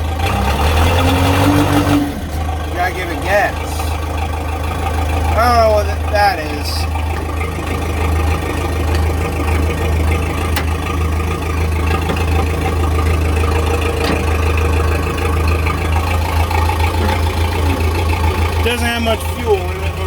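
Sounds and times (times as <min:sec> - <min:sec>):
backhoe engine rumbling: 0:00.0 - 0:20.0.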